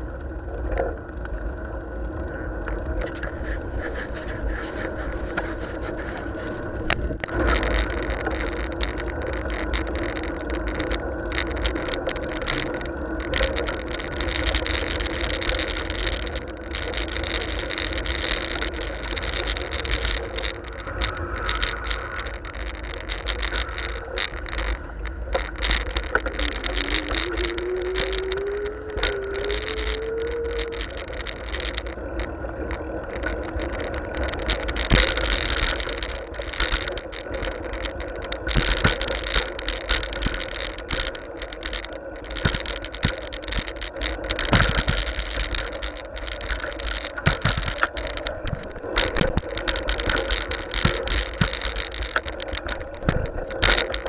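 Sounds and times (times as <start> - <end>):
wind rumble on microphone: 0.0 - 54.0
bicycle rattling clicks: 2.6 - 54.0.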